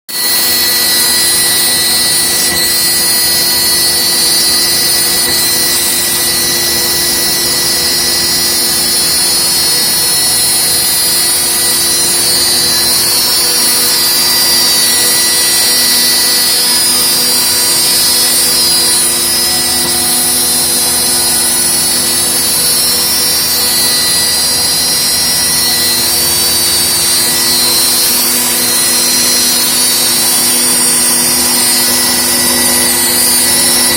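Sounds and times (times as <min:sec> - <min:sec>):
cnc spindle high whine: 0:00.1 - 0:33.9
hiss of cutting noise: 0:00.2 - 0:33.9.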